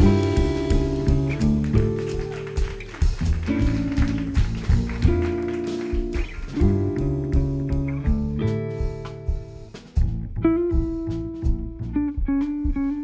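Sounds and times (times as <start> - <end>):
double bass: 0.0 - 13.0
drum kit: 0.0 - 13.0
electric guitar playing chords: 0.0 - 13.0.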